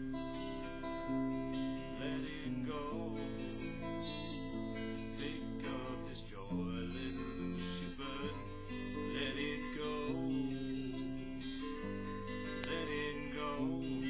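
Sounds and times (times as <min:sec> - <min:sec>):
guitar strummed in slow chords: 0:00.0 - 0:14.0.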